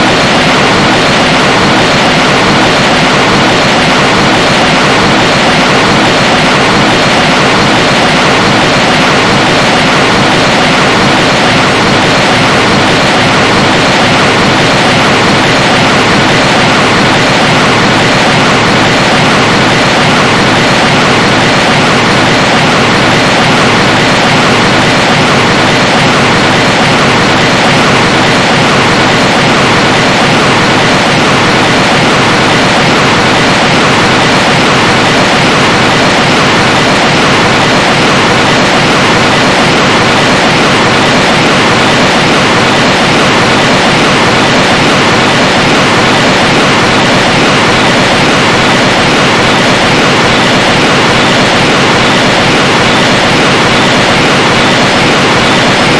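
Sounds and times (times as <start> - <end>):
loud steady rushing noise: 0.0 - 55.9.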